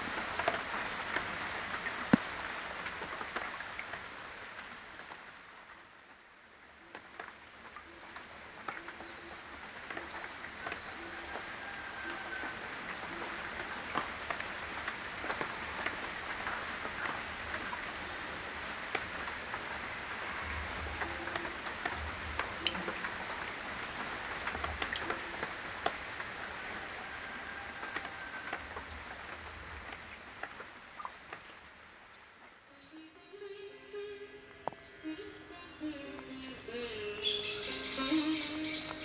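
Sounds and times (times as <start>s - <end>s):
rain patter: 0.0s - 33.7s, 34.5s - 39.0s.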